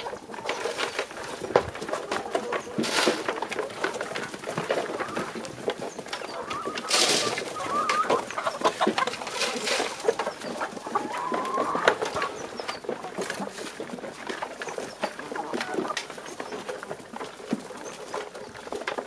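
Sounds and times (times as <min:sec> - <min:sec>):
chickens clucking: 0:00.0 - 0:19.0
pecking clicks on feed basin: 0:00.0 - 0:19.0.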